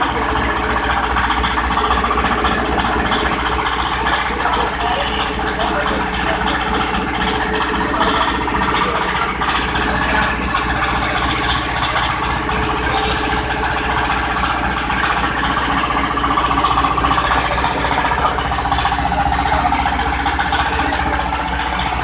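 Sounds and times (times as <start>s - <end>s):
grinding machine motor whirring: 0.0s - 22.0s.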